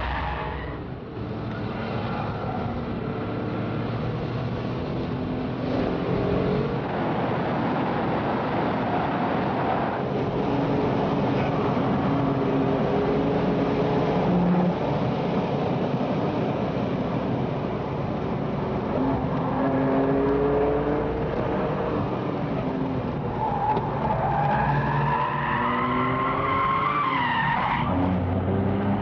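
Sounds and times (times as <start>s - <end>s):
car engine running hard: 0.0s - 29.0s.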